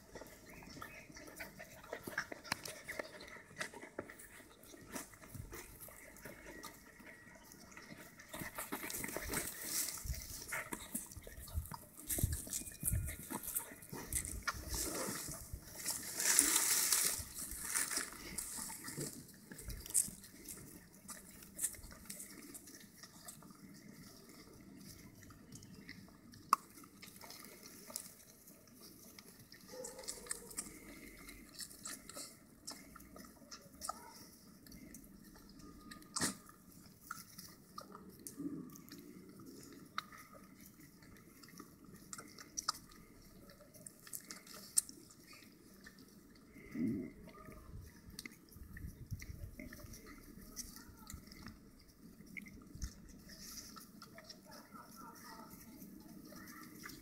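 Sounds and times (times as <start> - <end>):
puppies suckling: 0.0 - 57.0
rustle: 0.0 - 57.0.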